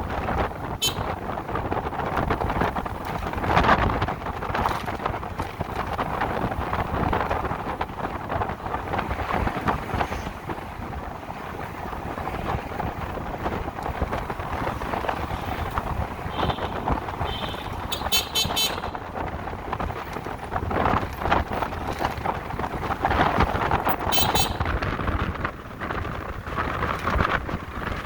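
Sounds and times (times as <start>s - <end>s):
road and traffic noise: 0.0s - 28.0s
wind buffeting microphone: 0.0s - 28.0s.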